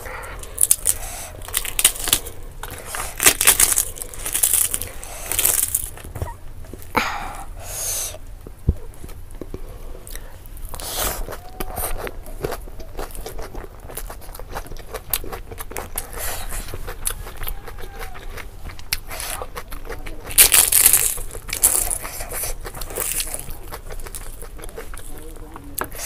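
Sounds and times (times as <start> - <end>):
wet chewing and lip smacks: 0.0 - 6.1, 9.0 - 26.0.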